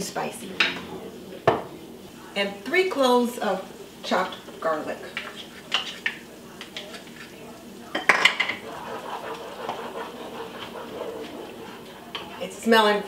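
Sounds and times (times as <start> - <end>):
light sizzle: 0.0 - 13.0
spatula stirring in pan: 2.1 - 13.0.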